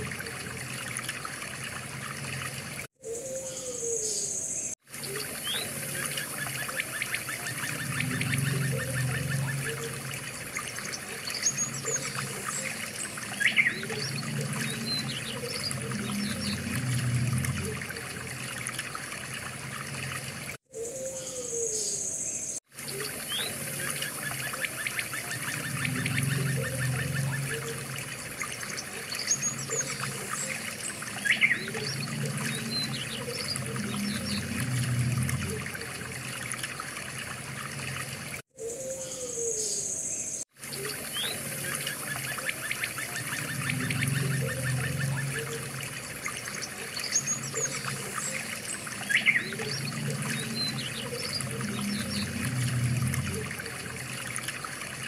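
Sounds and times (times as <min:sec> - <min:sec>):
water trickling: 0:00.0 - 0:03.7, 0:04.6 - 0:21.6, 0:22.6 - 0:38.5, 0:40.4 - 0:55.0.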